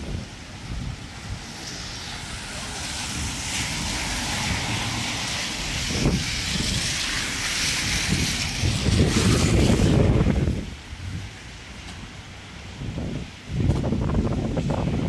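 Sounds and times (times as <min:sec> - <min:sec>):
tyres hissing on wet road: 0:00.0 - 0:15.0
wind rumbling on microphone: 0:00.0 - 0:15.0.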